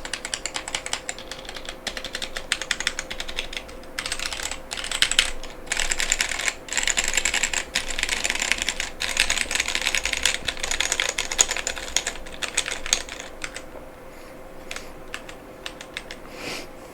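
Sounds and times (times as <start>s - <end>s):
mechanical keyboard typing: 0.0s - 13.7s, 14.7s - 16.2s.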